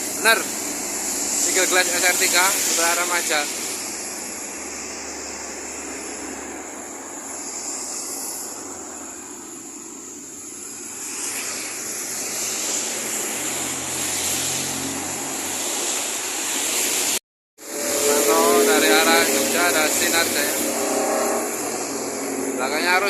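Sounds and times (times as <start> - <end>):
traffic on wet highway: 0.0 - 23.0.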